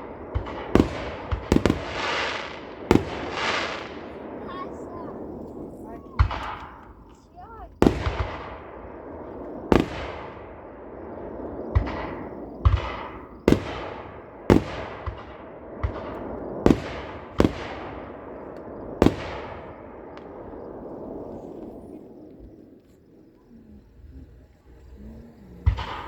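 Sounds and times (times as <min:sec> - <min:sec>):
fireworks booming: 0:00.0 - 0:26.0.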